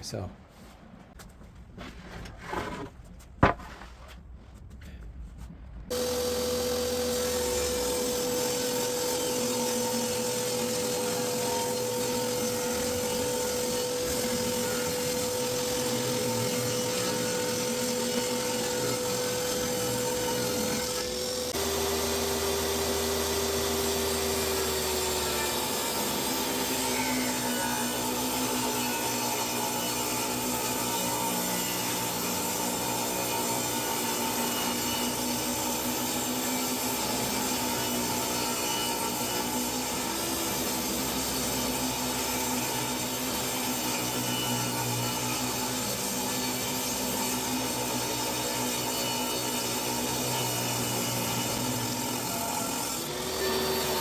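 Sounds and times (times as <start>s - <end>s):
table saw cutting wood: 5.9s - 54.0s.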